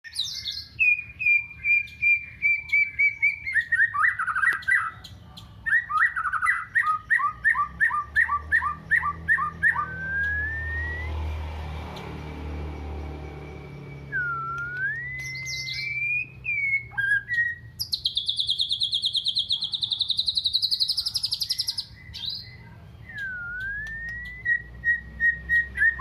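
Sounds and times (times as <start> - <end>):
long rising bird whistle: 0.1 - 4.8, 5.7 - 11.4, 12.6 - 22.4, 23.0 - 26.0
bird chirps and trills: 0.1 - 26.0.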